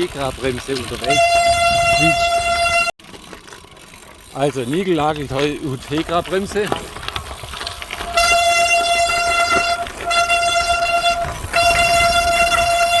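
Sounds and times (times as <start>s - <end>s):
bicycle disc brake squealing: 0.0s - 13.0s.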